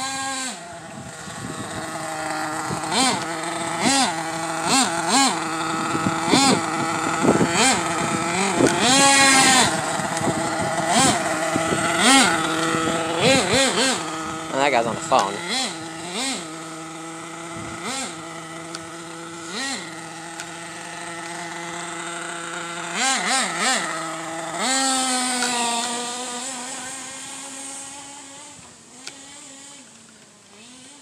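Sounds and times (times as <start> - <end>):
toy nitro engine revving: 0.0 - 31.0.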